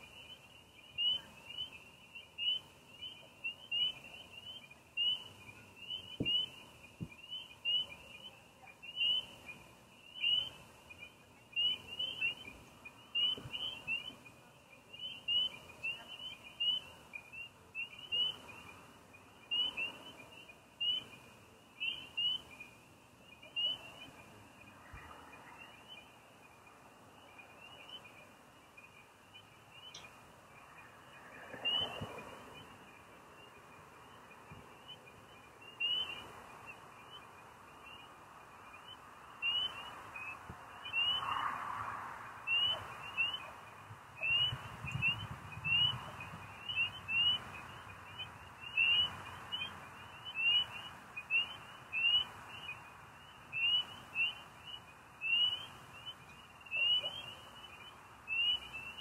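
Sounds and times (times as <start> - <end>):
frogs and crickets chirping: 0.0 - 59.0.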